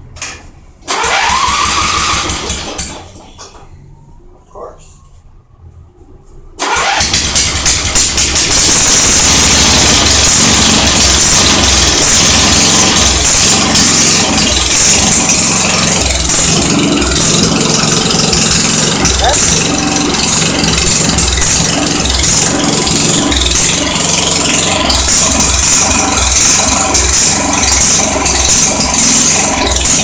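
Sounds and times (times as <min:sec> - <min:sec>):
loud unmuffled tractor engine: 0:00.2 - 0:03.4, 0:06.6 - 0:30.0.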